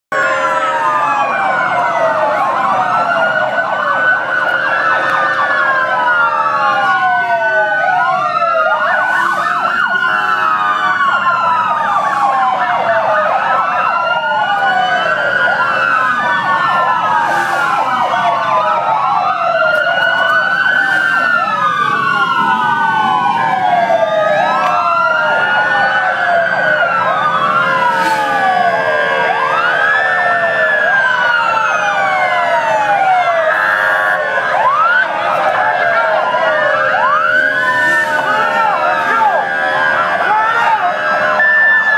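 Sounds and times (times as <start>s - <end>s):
motorcycle sirens wailing: 0.1s - 41.9s
steady held siren tone: 0.1s - 41.9s.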